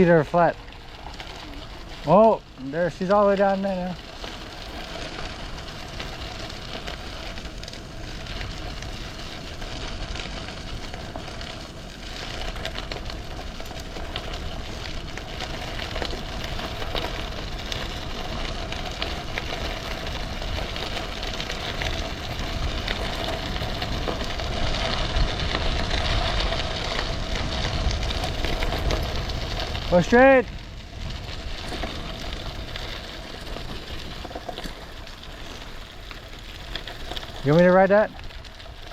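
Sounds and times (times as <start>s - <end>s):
bicycle tyres crackling over grit: 0.0s - 38.9s
wind rumble on microphone: 0.0s - 38.9s.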